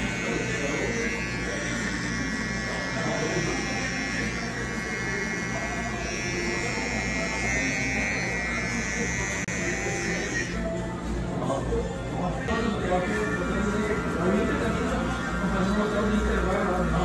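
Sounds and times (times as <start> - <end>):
electric hair trimmer buzzing: 0.0 - 10.7, 13.4 - 17.0.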